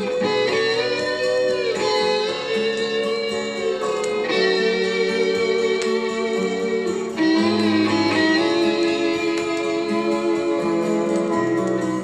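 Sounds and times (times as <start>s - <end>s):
guitar melody: 0.0s - 12.0s
pop instrumental on vinyl record: 0.0s - 12.0s.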